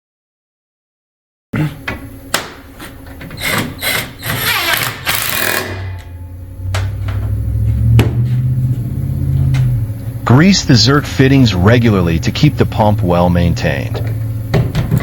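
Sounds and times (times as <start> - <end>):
low steady hum: 1.6 - 15.0.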